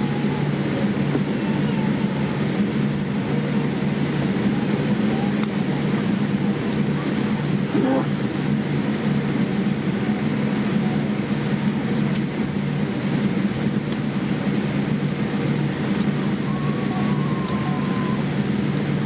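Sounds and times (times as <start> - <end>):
vehicle cabin drone: 0.0 - 19.0.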